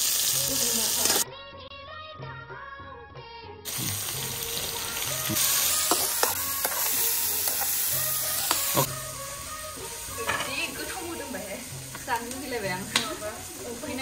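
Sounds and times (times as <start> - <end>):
food sizzling in hot oil: 0.0 - 1.3, 3.7 - 14.0.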